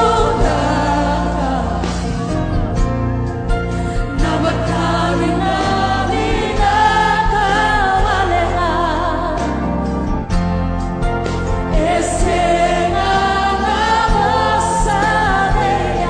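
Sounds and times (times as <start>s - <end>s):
gospel choir singing: 0.0s - 16.0s
low band accompaniment: 0.0s - 16.0s.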